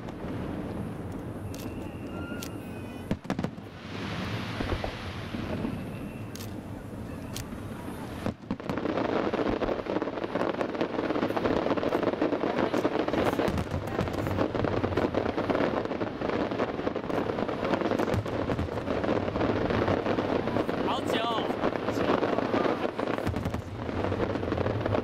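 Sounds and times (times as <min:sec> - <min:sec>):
fireworks crackling: 0:00.0 - 0:25.0
low fireworks rumble: 0:00.0 - 0:25.0.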